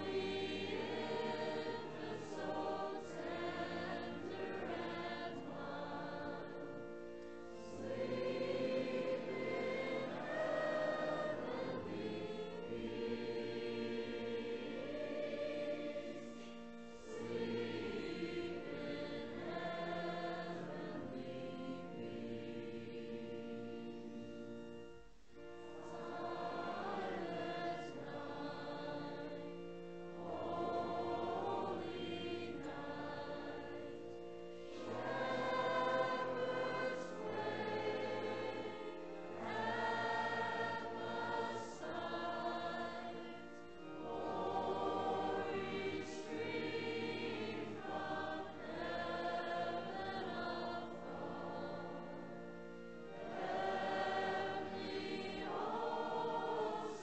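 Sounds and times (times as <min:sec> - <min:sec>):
congregation singing a hymn: 0:00.0 - 0:57.0
organ accompaniment: 0:00.0 - 0:57.0.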